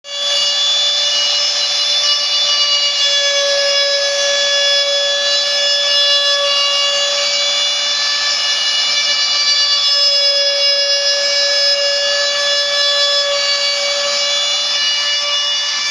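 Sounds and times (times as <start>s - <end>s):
machine spindle whining: 0.1s - 15.9s.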